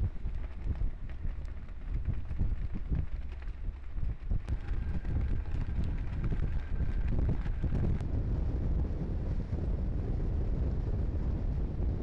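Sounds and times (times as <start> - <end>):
low rumble: 0.0 - 12.0
wind buffeting microphone: 0.0 - 12.0.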